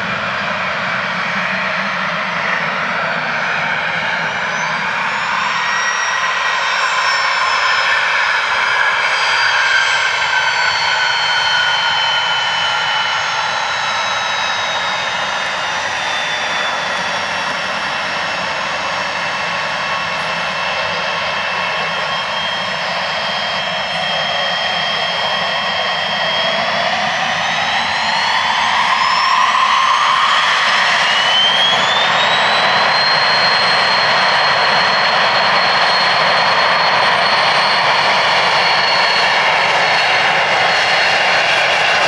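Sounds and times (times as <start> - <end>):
jet engines whining: 0.0 - 42.0.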